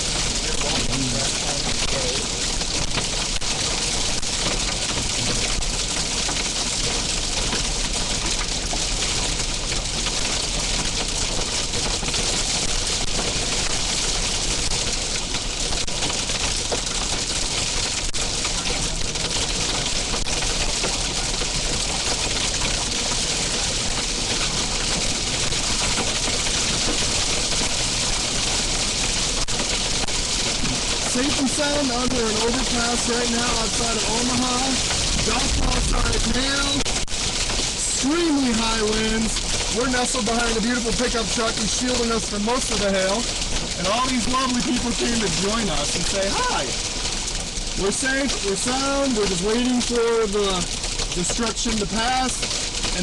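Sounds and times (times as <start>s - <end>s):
hailstones ticking: 0.0s - 53.0s
heavy rain hissing: 0.0s - 53.0s.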